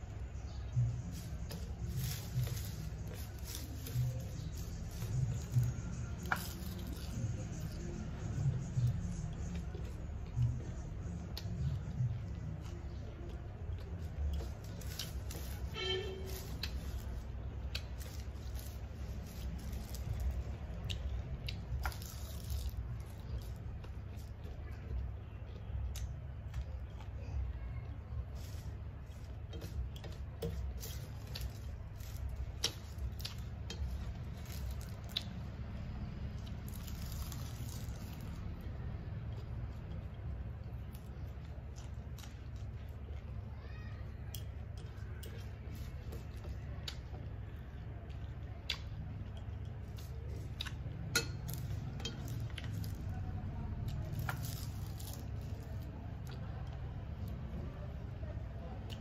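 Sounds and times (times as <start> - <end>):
soft squishing: 0.0 - 59.0.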